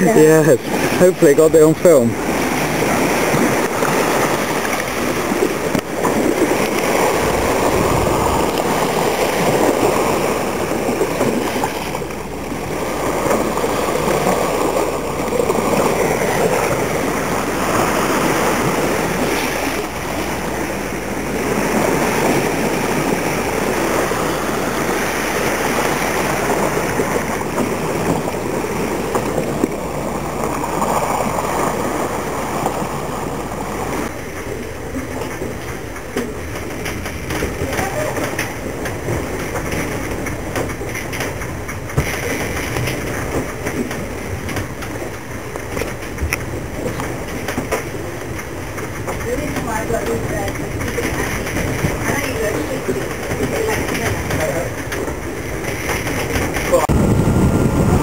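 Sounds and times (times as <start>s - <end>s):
water rushing past a boat bow: 0.0s - 58.0s.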